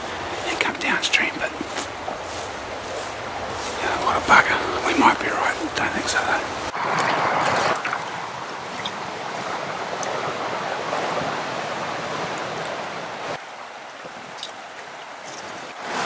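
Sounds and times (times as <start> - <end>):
river water rushing over stones: 0.0 - 16.0.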